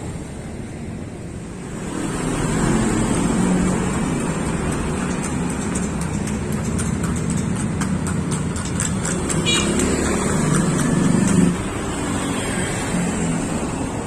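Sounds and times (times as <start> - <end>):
motorcycles passing: 1.6 - 14.0.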